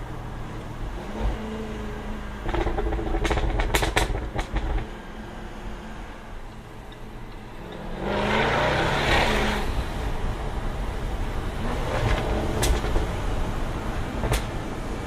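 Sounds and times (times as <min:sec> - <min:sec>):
car engine accelerating: 0:00.6 - 0:15.0.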